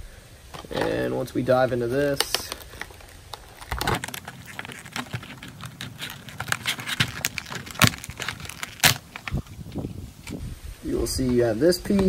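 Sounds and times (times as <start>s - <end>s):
plastic packaging crinkling: 0.6s - 10.4s.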